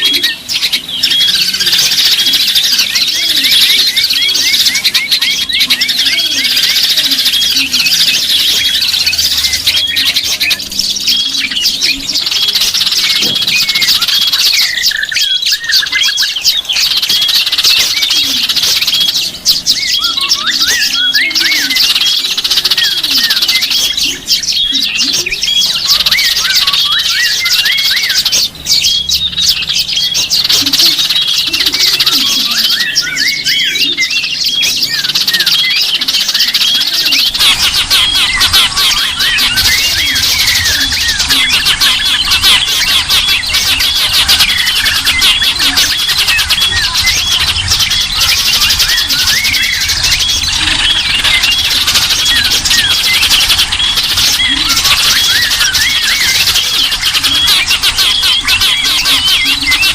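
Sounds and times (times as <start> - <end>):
songbirds chirping chorus: 0.0 - 59.9.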